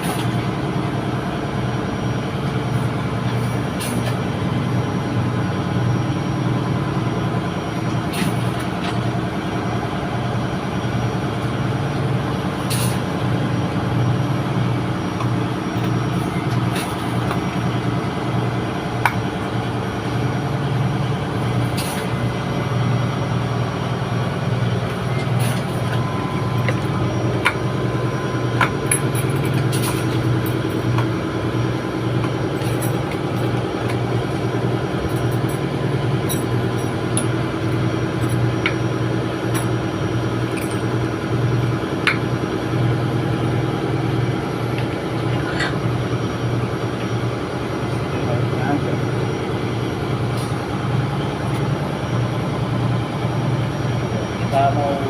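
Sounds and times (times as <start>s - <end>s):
engine-room machinery drone: 0.0s - 55.0s.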